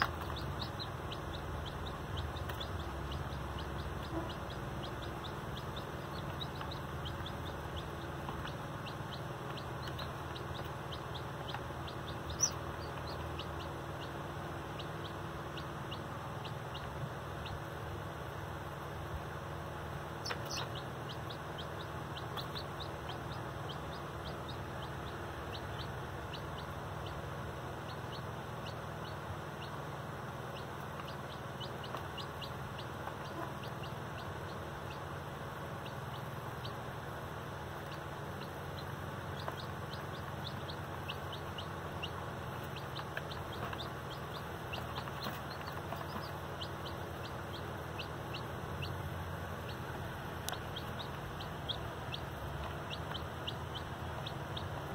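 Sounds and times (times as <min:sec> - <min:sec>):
chicks peeping: 0:00.0 - 0:54.9
steady low hum: 0:00.0 - 0:54.9.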